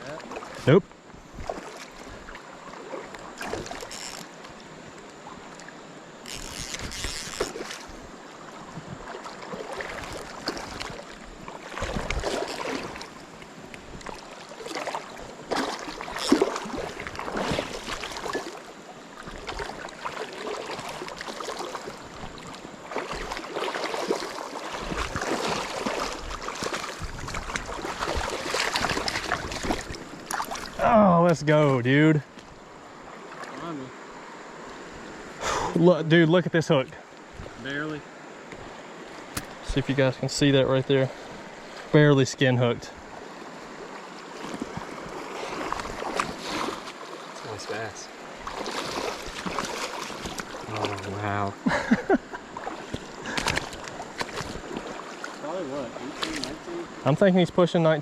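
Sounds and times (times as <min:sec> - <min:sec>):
river water splashing: 0:00.0 - 0:58.0.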